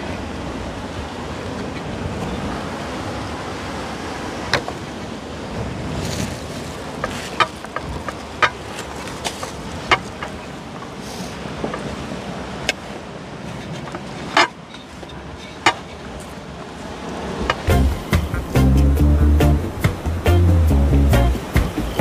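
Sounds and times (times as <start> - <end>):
surf breaking on rocks: 0.0 - 22.0.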